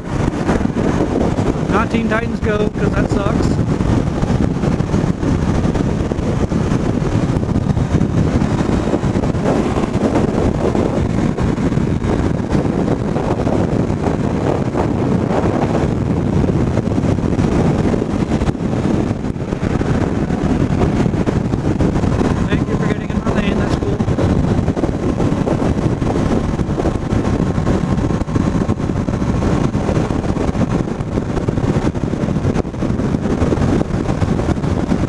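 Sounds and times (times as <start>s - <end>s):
motorcycle running noise: 0.0s - 35.0s
wind rushing over helmet: 0.0s - 35.0s.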